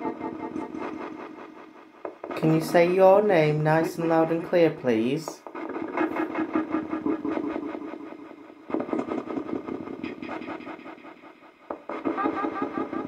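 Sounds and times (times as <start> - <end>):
choppy radio fragments and static: 0.0 - 13.0.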